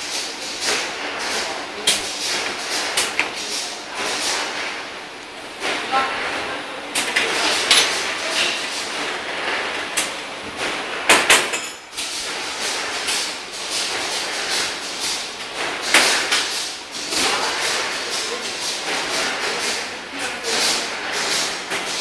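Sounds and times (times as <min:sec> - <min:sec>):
machine mechanical clatter: 0:00.0 - 0:22.0.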